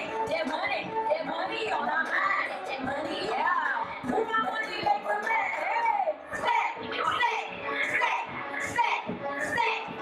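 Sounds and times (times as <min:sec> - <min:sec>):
woman rapping over a beat: 0:00.0 - 0:10.0.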